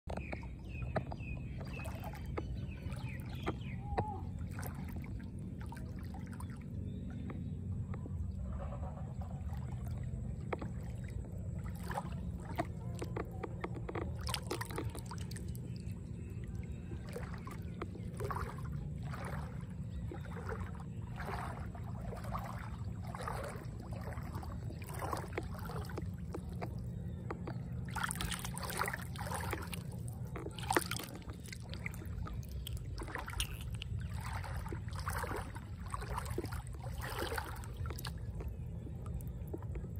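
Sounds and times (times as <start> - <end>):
feet sloshing through water: 0.0 - 39.9
steady low rumble: 0.1 - 39.9.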